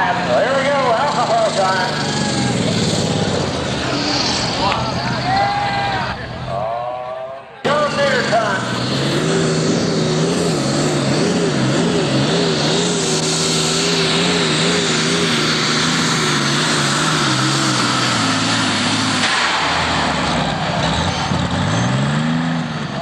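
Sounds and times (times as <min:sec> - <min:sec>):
tractor engine running hard: 0:00.0 - 0:06.5, 0:07.6 - 0:23.0.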